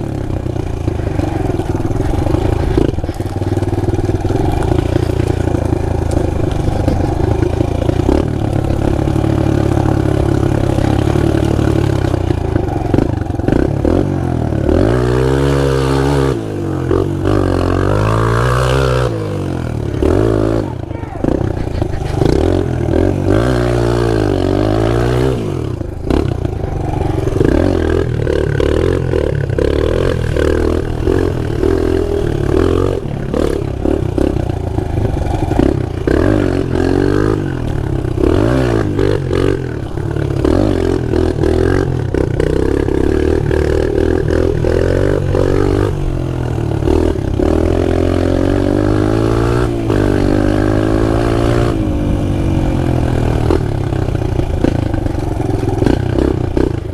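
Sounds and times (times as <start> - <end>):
pit bike engine revving: 0.0 - 56.9.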